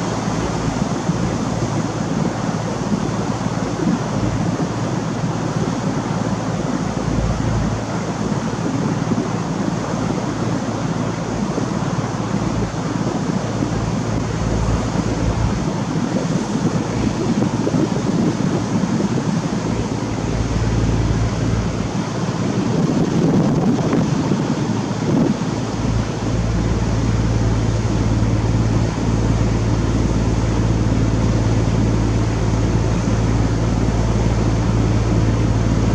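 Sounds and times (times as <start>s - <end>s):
boat engine droning: 0.0s - 35.9s
water rushing along hull: 0.0s - 35.9s
wind noise on microphone: 0.0s - 35.9s.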